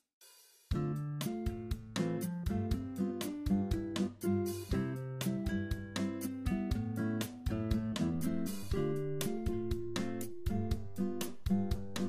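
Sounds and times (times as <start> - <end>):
guitar-led music with beat: 0.7 - 12.0.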